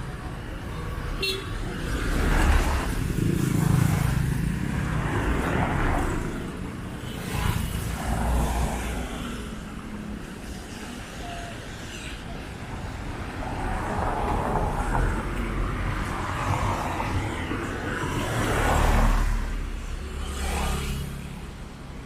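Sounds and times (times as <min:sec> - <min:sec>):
cars passing by: 0:00.0 - 0:22.0.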